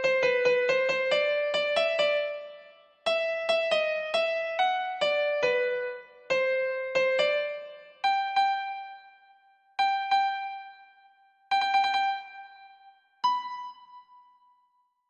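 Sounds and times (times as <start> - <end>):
piano-like keyboard melody: 0.0 - 14.2.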